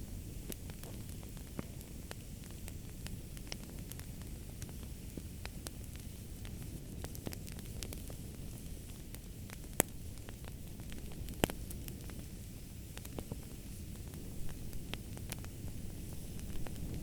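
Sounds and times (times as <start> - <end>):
fire crackling: 0.0 - 17.0
sharp pops of fire: 0.0 - 17.0
wood fire rumbling: 0.0 - 17.0.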